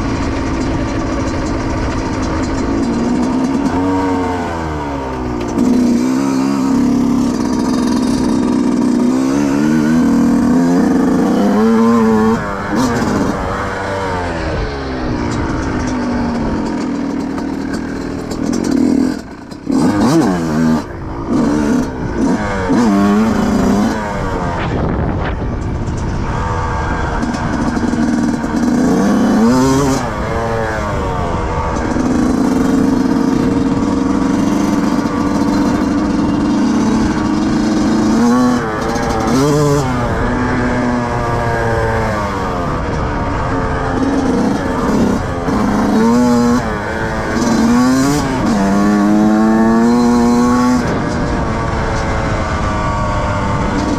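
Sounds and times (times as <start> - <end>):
motocross engine revving hard: 0.0 - 53.9.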